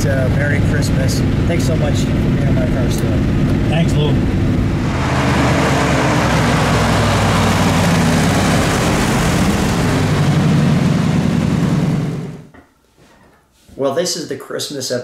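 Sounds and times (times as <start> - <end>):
car engine driving by: 0.4 - 12.5.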